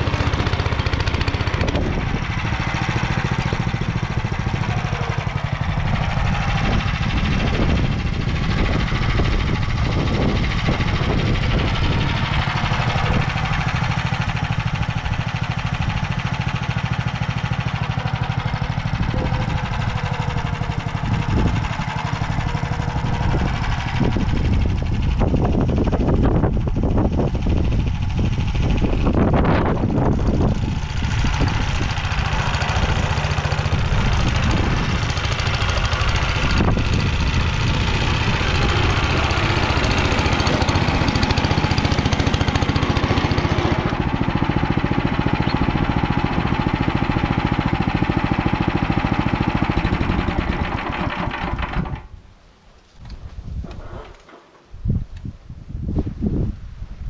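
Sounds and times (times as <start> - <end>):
rotary tiller working soil: 0.0 - 52.2, 53.0 - 54.6
walk-behind tractor engine running: 0.0 - 52.2.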